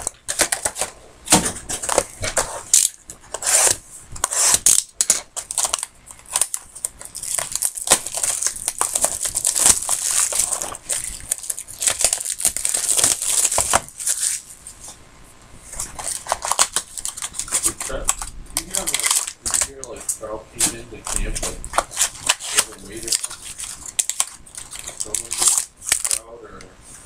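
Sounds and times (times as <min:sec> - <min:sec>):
packaging torn and crinkled: 0:01.8 - 0:14.4, 0:15.8 - 0:20.0, 0:21.0 - 0:26.3.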